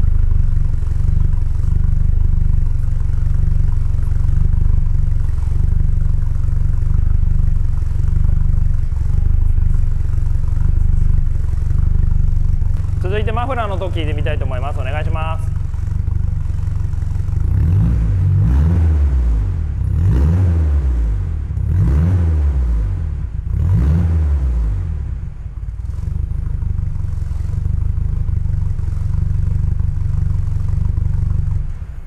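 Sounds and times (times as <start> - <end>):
car engine idling: 0.0 - 32.0
car engine revving: 0.0 - 32.0.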